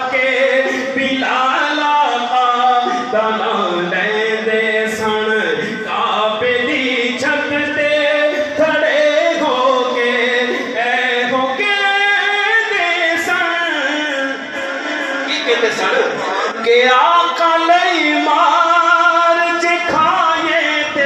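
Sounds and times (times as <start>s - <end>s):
man singing unaccompanied: 0.0s - 15.5s, 16.5s - 21.0s.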